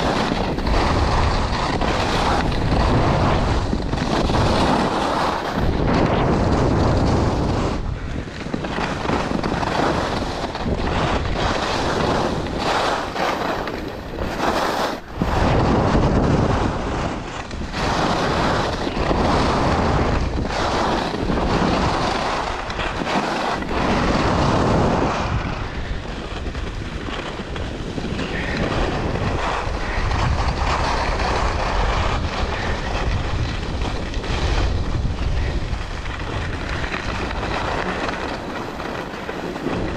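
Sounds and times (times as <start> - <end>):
skis scraping on packed snow: 0.0 - 39.9
wind buffeting microphone: 0.0 - 39.9.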